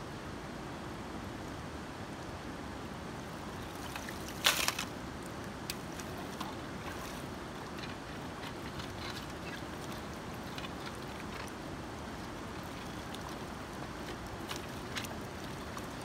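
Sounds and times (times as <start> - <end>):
shallow river flowing over stones: 2.8 - 16.0.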